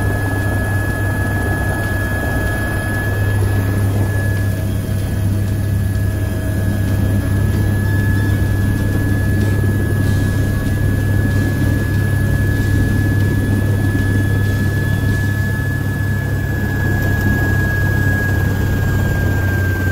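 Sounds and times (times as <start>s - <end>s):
helicopter heavy drone: 0.0s - 19.9s
high turbine whine: 0.0s - 19.9s.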